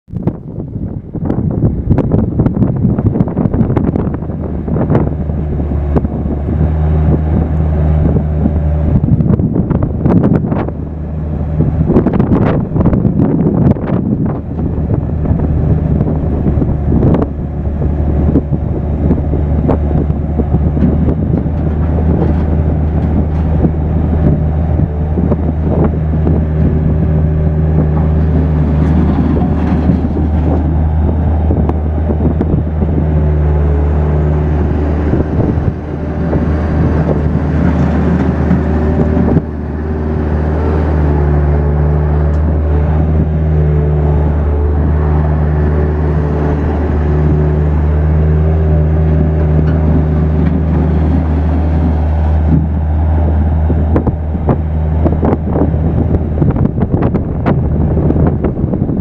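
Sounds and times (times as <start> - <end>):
diesel engine running: 0.1 - 59.0.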